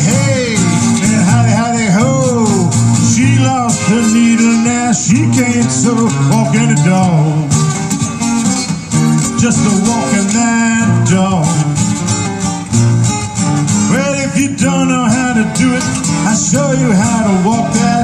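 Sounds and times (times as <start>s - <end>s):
acoustic guitars strumming: 0.0s - 18.0s
lead melody with bending notes: 0.0s - 18.0s.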